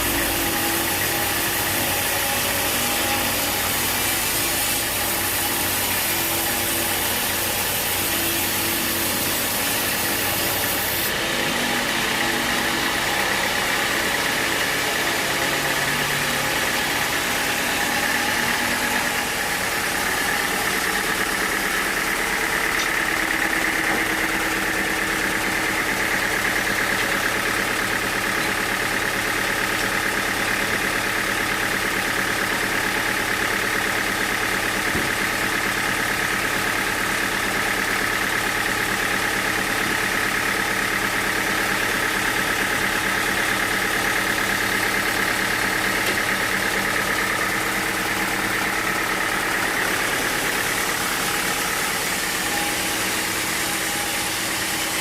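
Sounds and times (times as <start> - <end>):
sawmill machinery humming and whining: 0.0 - 55.0.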